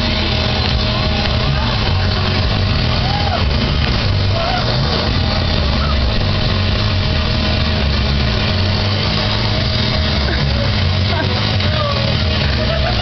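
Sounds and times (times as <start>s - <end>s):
thrill ride machinery rumbling: 0.0s - 13.0s.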